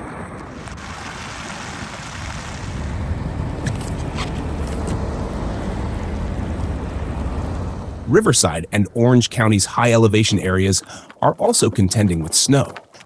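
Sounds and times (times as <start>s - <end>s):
steady rushing noise: 0.0s - 12.6s
vehicle low rumble: 0.0s - 13.0s.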